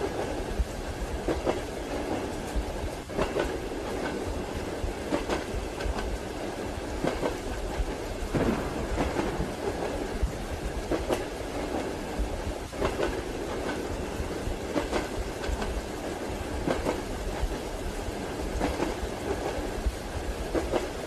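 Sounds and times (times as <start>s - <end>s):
railway carriage rumble: 0.0s - 21.0s
train wheels clacking over rail joints: 1.2s - 6.2s, 6.9s - 17.7s, 18.4s - 21.0s.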